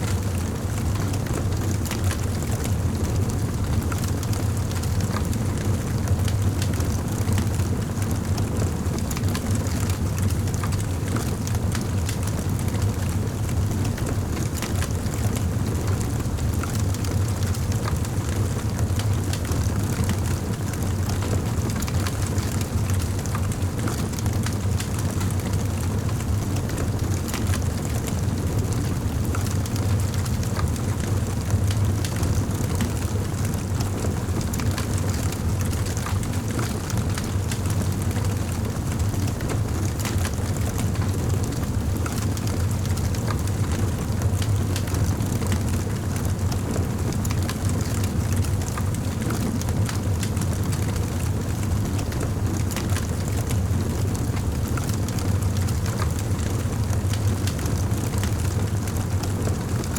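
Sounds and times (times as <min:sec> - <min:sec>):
fireplace fire crackling: 0:00.2 - 0:59.9.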